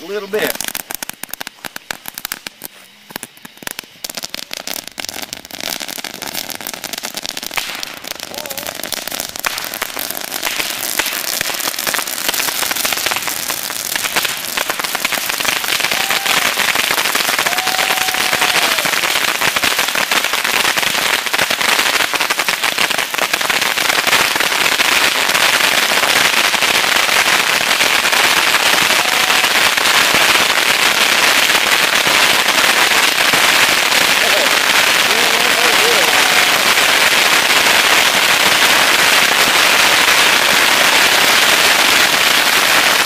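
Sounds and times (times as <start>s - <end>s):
bottle rockets hissing and popping: 0.0s - 43.0s.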